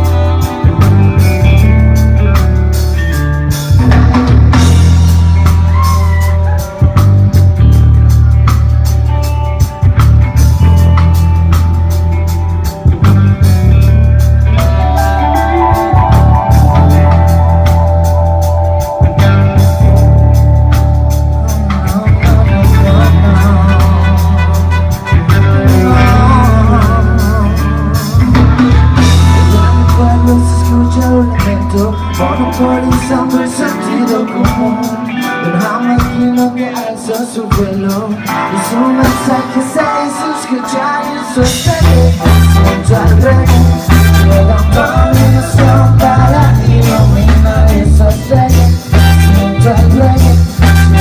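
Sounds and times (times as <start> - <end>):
heavy pulsing bass line: 0.0 - 51.0
live reggae band playing: 0.0 - 51.0.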